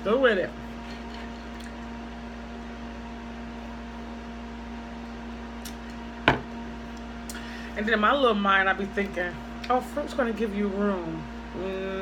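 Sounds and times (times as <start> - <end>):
electrical appliance hum: 0.0 - 12.0.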